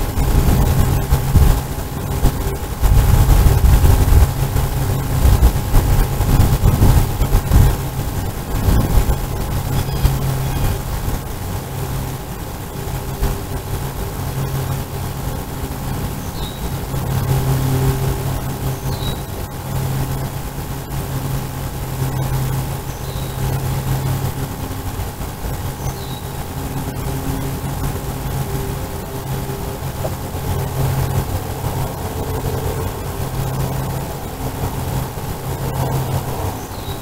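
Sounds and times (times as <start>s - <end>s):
engine drone: 0.0s - 37.0s.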